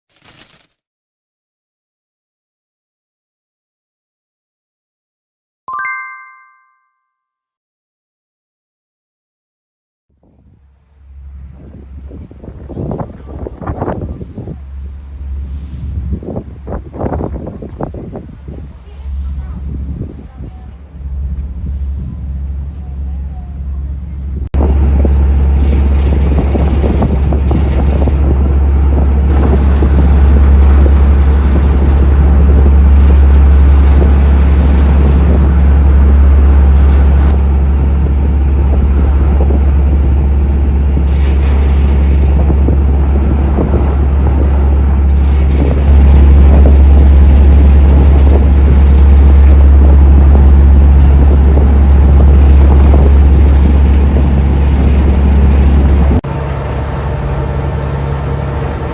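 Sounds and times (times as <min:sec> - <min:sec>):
ferry engine rumble: 0:10.2 - 0:58.9.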